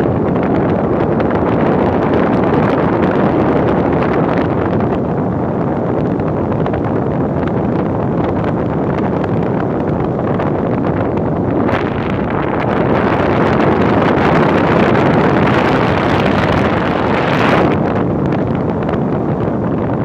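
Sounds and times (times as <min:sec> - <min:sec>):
air conditioner fan running: 0:00.0 - 0:20.0.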